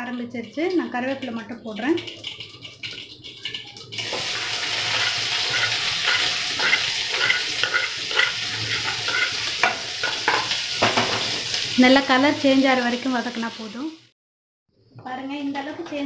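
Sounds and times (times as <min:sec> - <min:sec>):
onions sizzling in hot oil: 0:00.3 - 0:14.1.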